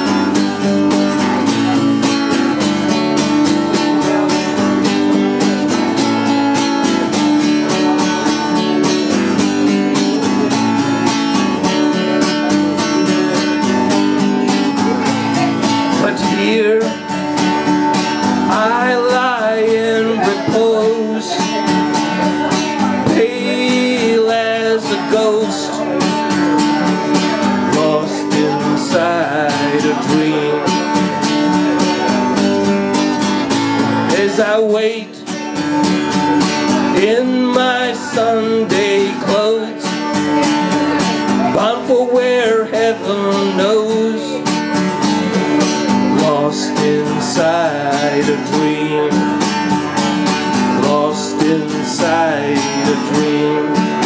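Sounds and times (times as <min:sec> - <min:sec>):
acoustic guitar strumming: 0:00.0 - 0:54.0
man singing: 0:00.0 - 0:54.0.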